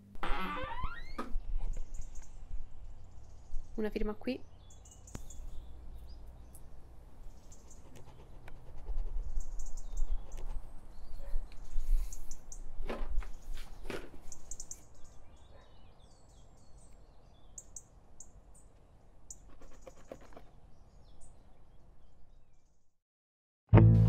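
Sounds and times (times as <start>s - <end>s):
small birds chirping: 1.1s - 22.9s.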